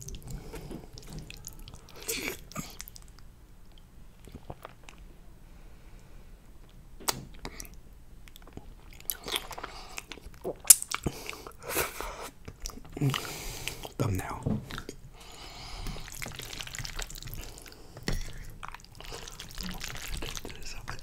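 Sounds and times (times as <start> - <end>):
wet open-mouthed chewing: 0.0 - 5.0, 7.4 - 14.0, 14.7 - 21.0.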